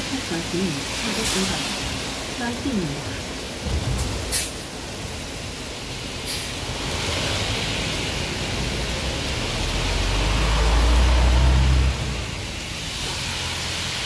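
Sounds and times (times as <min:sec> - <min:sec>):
bus engine rumble: 0:00.0 - 0:14.0
steady rain: 0:00.0 - 0:14.0
tyres hissing through water: 0:00.0 - 0:14.0.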